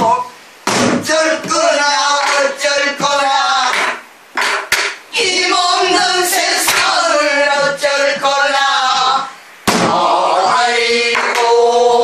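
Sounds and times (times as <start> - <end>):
women singing together: 0.7 - 4.1, 4.7 - 12.0.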